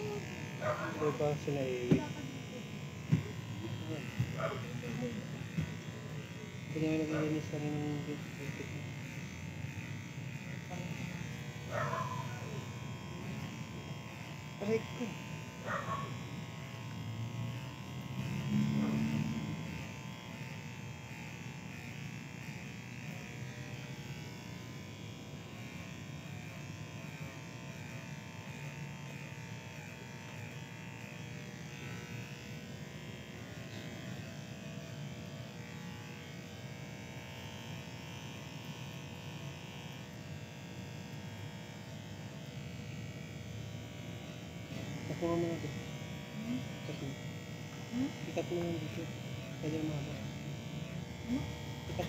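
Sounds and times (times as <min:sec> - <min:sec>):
electric hair clippers buzzing: 0:00.0 - 0:52.0.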